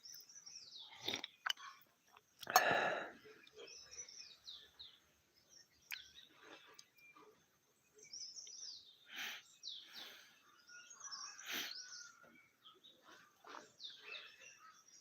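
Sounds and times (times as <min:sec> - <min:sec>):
birds chirping and singing: 0:00.0 - 0:01.8, 0:02.9 - 0:15.0.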